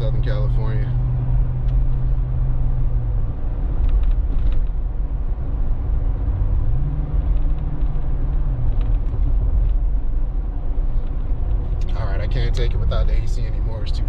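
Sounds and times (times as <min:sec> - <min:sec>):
car engine drone: 0:00.0 - 0:14.0
road rumble: 0:00.0 - 0:14.0.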